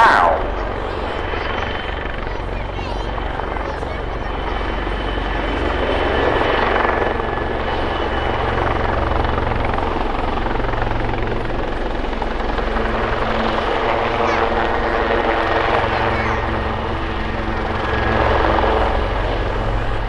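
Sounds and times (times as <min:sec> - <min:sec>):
helicopter rotor thrum: 0:00.0 - 0:20.0
turbine whine: 0:00.0 - 0:20.0.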